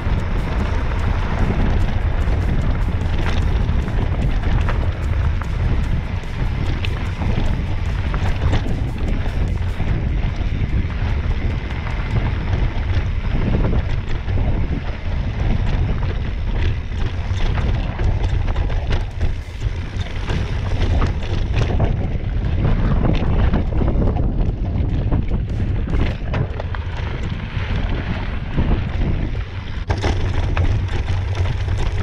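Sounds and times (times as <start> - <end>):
bike rattling over stones: 0.0 - 32.0
wind buffeting microphone: 0.0 - 32.0.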